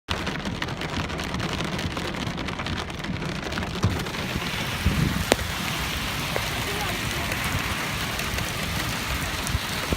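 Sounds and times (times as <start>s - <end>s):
rain falling: 0.1s - 9.9s.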